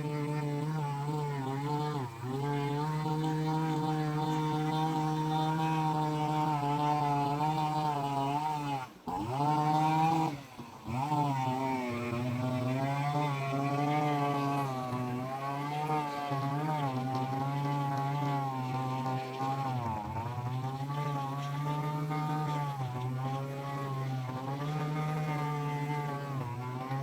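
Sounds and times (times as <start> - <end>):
small petrol garden tool engine: 0.0 - 27.0.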